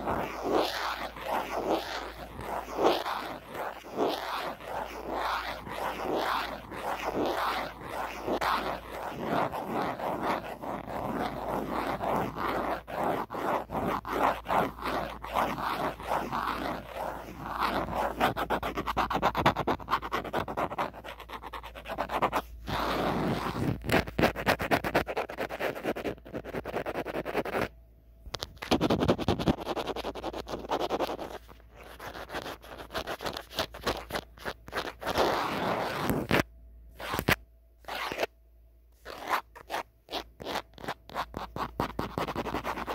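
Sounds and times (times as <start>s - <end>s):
fingernails scratching and tapping phone: 0.0s - 27.7s, 28.3s - 38.3s, 39.0s - 42.9s.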